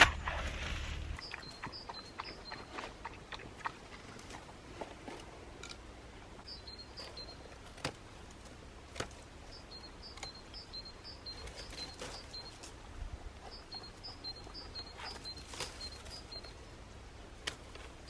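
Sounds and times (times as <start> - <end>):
faint distant birdsong: 0.0 - 18.0.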